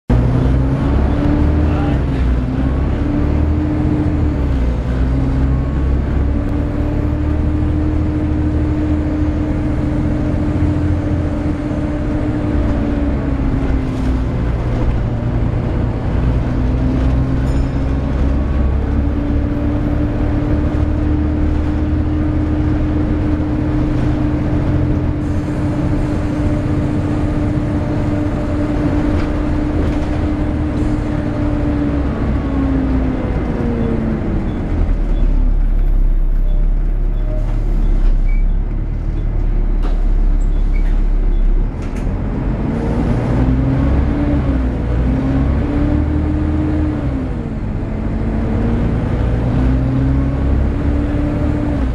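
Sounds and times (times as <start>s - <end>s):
bus engine rumbling: 0.1s - 51.9s.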